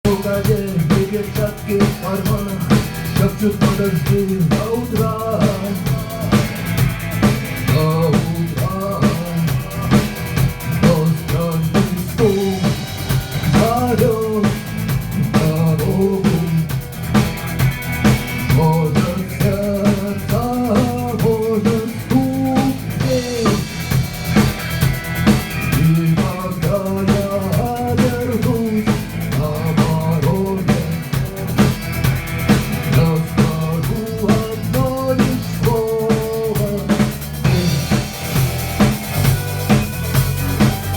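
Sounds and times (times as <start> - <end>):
drum kit beat: 0.0 - 40.9
rock band playing: 0.0 - 40.9
melodic lead line: 0.1 - 29.4, 36.9 - 40.9.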